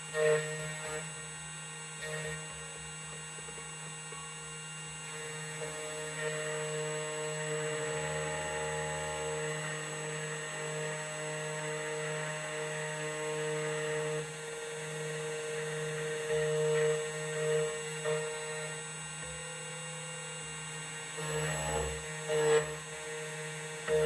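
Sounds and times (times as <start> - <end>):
key cutting machine grinding: 0.0 - 24.0.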